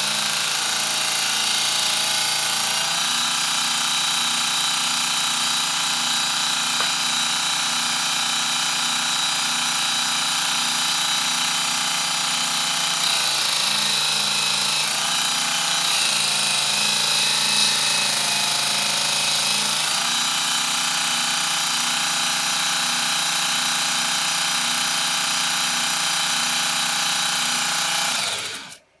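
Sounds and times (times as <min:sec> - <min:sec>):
belt grinder whining: 0:00.0 - 0:23.4, 0:24.2 - 0:28.9.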